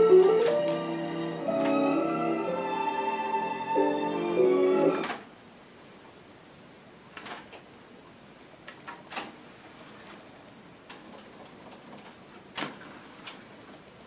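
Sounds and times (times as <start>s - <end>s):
faint hiss: 0.0s - 14.0s.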